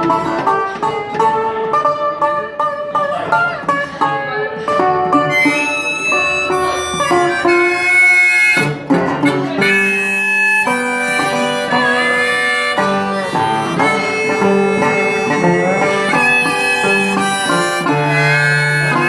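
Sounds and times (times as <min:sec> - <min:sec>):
blues harmonica playing: 0:00.0 - 0:19.0
strummed guitar: 0:00.0 - 0:19.0.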